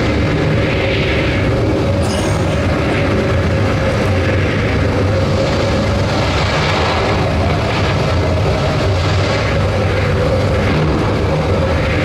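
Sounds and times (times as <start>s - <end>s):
gale wind rushing: 0.0s - 12.0s
heavy sea waves: 0.0s - 12.0s
low droning hum: 0.0s - 12.0s.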